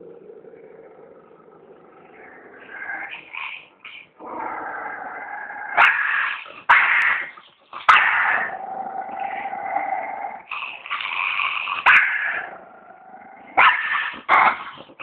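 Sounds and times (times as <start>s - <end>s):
small dog growling: 0.0s - 15.0s
dog snarling: 1.9s - 15.0s.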